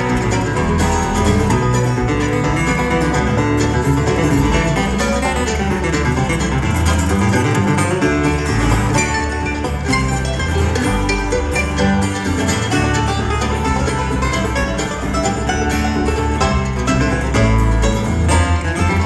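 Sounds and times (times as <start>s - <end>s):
bluegrass string band playing: 0.0s - 19.0s.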